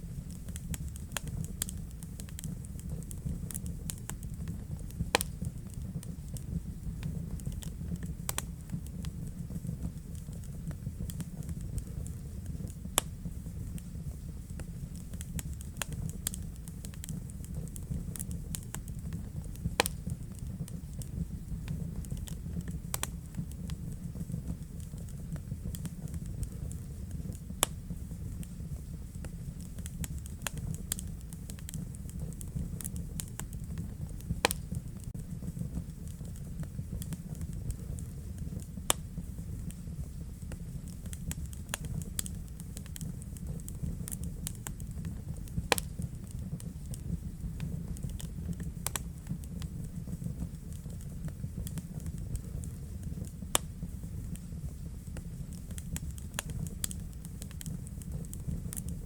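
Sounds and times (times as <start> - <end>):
low rumble of flames: 0.0 - 59.0
sharp fire pops: 0.0 - 59.0
wood fire crackling: 0.0 - 59.0.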